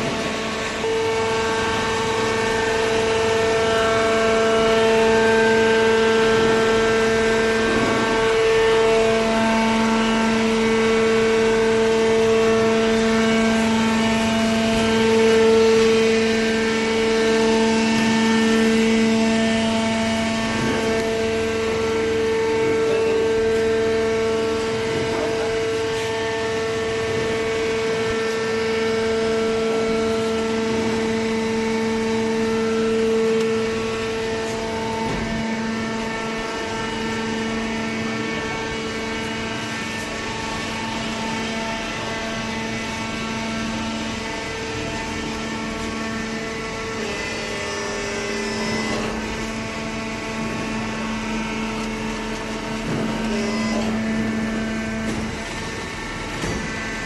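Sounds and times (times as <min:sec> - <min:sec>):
hydraulic pump motor humming: 0:00.0 - 0:57.0.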